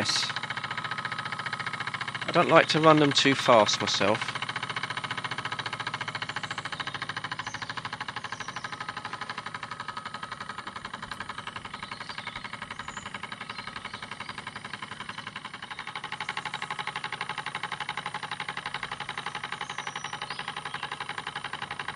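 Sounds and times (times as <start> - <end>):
model steam engine running: 0.0 - 21.9.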